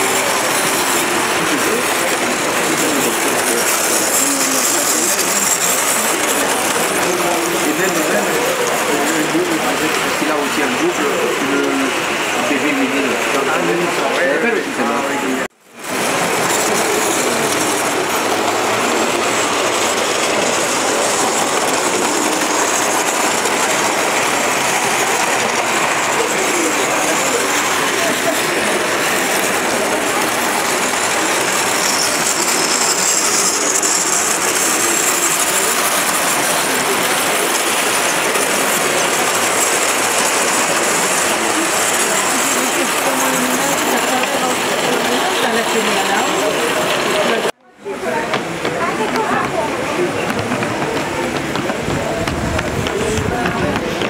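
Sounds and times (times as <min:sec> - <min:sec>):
model trains rattling on track: 0:00.0 - 0:54.0.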